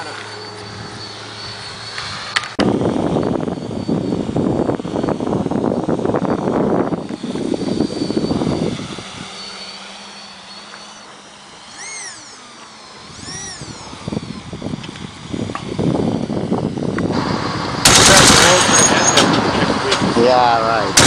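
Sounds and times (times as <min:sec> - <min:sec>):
quadcopter motors whirring: 0:00.0 - 0:21.0.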